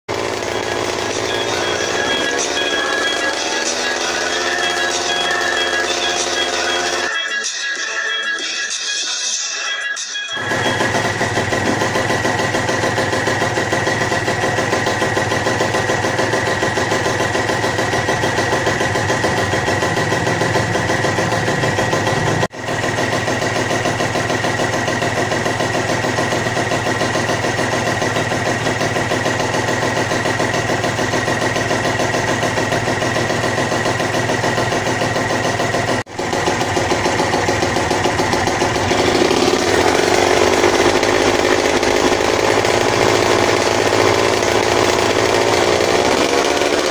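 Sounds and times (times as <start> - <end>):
two-stroke engine idling: 0.0 - 7.2, 10.4 - 46.9.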